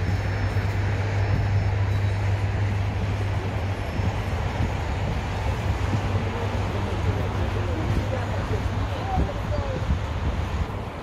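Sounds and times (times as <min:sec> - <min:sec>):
low engine hum: 0:00.0 - 0:11.0
outdoor noise: 0:00.0 - 0:11.0.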